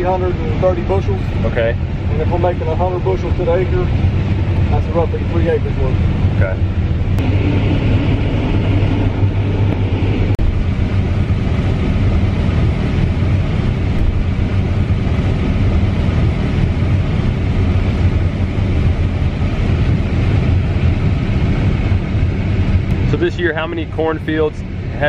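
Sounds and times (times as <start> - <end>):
combine harvester engine drone: 0.0 - 25.0.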